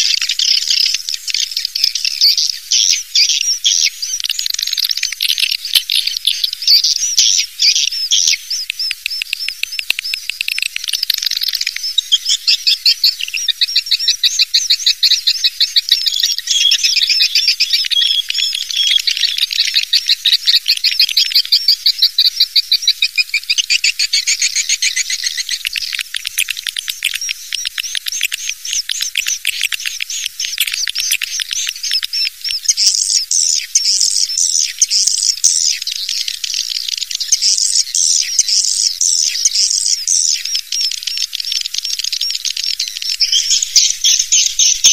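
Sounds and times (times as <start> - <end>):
swiftlets twittering trills: 0.0 - 44.9.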